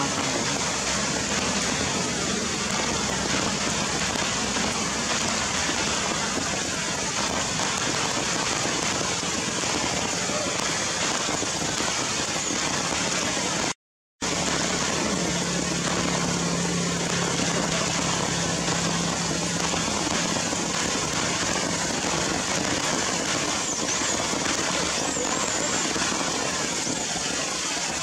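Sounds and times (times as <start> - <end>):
heavy rain hiss: 0.0 - 28.0.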